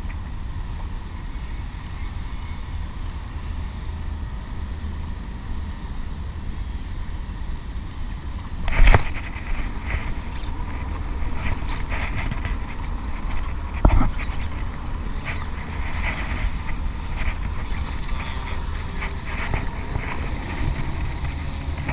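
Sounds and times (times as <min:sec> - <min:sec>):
wind rumble on microphone: 0:00.0 - 0:21.9.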